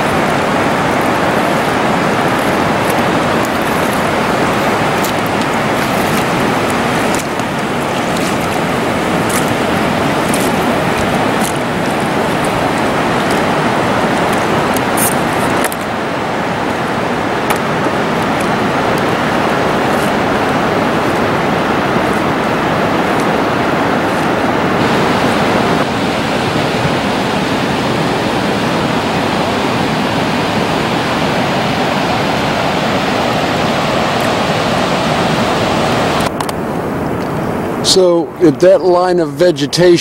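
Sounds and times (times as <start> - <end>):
water cascading over rocks: 0.0 - 40.0.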